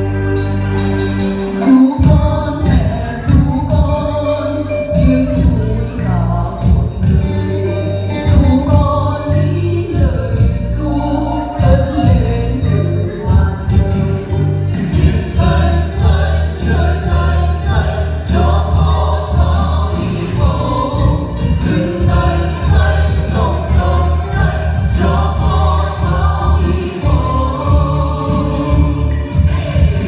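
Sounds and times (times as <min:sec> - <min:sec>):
backing music with bass: 0:00.0 - 0:30.0
group of voices singing: 0:01.5 - 0:30.0.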